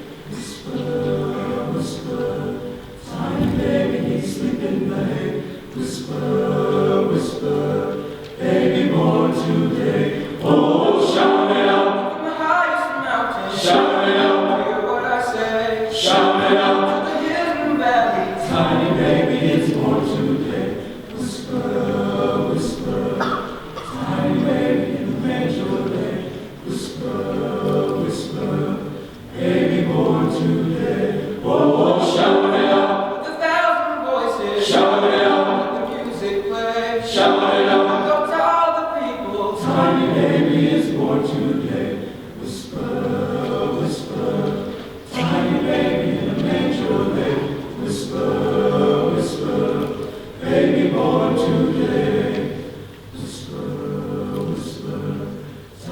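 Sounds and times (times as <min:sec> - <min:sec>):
men's chorus singing: 0:00.0 - 0:55.9.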